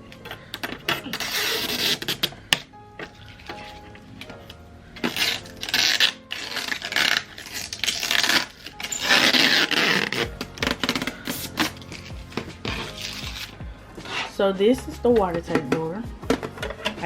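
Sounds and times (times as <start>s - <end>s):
music playing: 0.0s - 17.0s
plastic device scraping and rustling: 0.2s - 14.4s, 16.2s - 17.0s.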